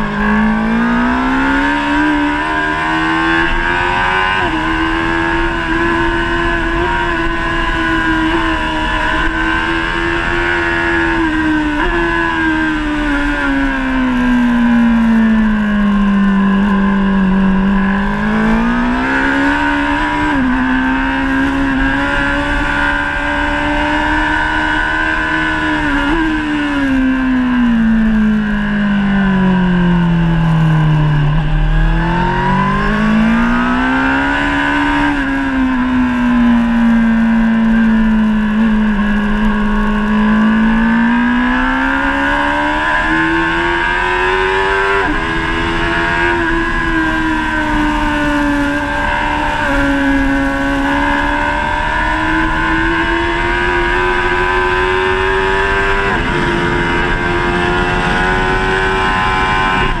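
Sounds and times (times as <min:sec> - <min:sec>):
motorcycle engine at speed: 0:00.0 - 1:00.0.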